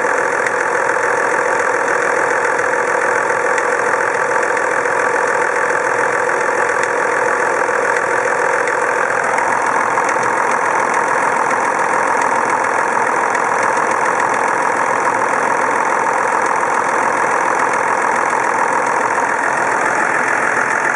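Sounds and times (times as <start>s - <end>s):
diesel engine running: 0.0s - 20.9s
irregular engine rattling: 0.0s - 20.9s.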